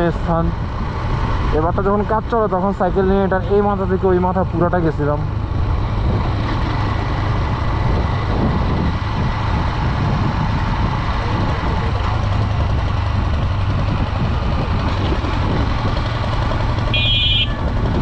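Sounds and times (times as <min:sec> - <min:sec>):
constant rushing noise: 0:00.0 - 0:18.0
motorcycle engine running: 0:00.0 - 0:18.0.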